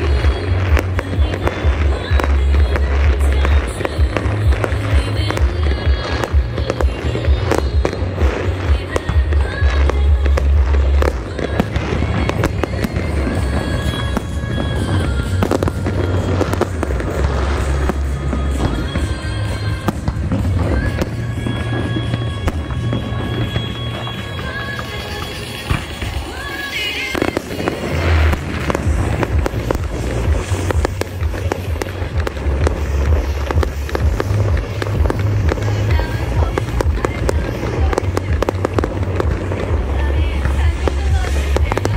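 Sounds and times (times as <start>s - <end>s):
fireworks bursting and crackling: 0.0s - 41.9s
loud music with heavy bass: 0.0s - 41.9s.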